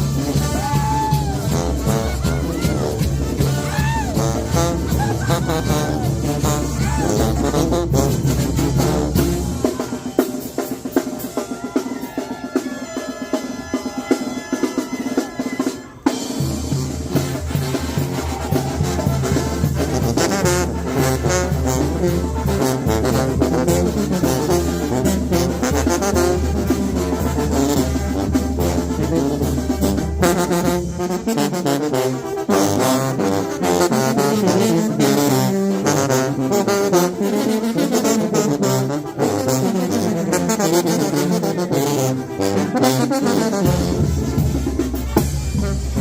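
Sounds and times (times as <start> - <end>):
deep brass bass line: 0.0 - 9.8, 16.3 - 46.0
brass band playing: 0.0 - 46.0.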